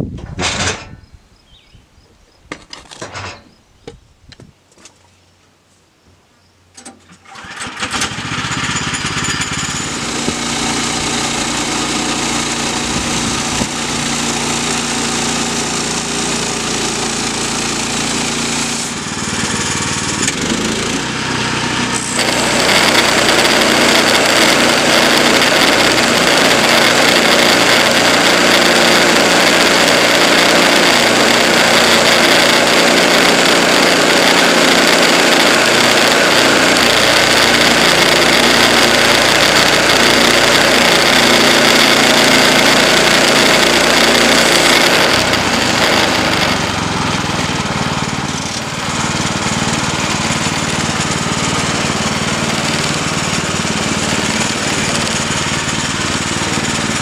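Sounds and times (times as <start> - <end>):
small gasoline engine running: 7.1 - 57.0
band saw blade sawing log: 7.9 - 57.0.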